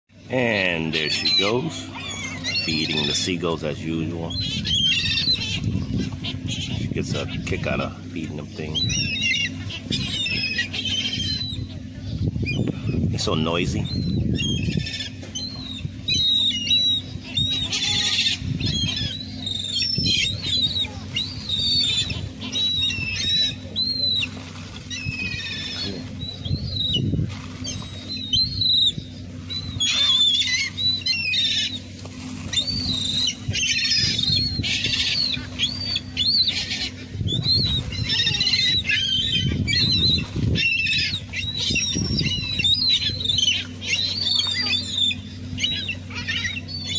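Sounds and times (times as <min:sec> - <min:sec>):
seagulls calling and squawking: 0:00.1 - 0:46.9
steady low hum: 0:00.1 - 0:46.9.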